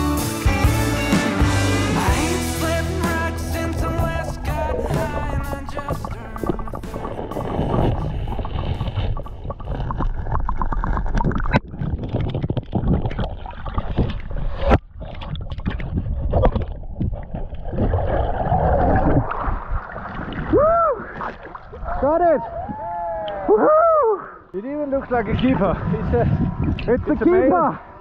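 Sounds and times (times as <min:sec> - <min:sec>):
water sloshing and bubbling: 0:03.6 - 0:23.4, 0:24.6 - 0:28.0.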